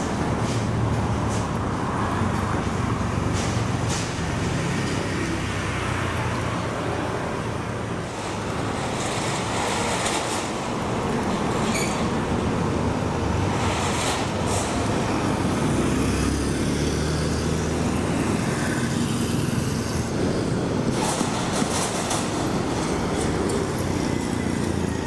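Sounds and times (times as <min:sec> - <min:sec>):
loud vehicle engine: 0:00.0 - 0:25.0
passing vehicle traffic: 0:00.0 - 0:25.0.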